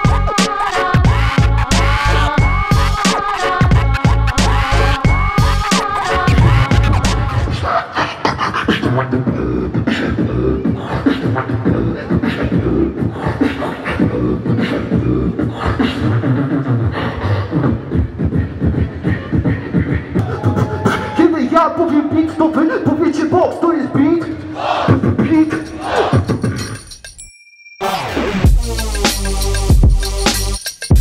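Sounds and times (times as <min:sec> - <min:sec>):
beatboxing through microphone: 0:00.0 - 0:27.0.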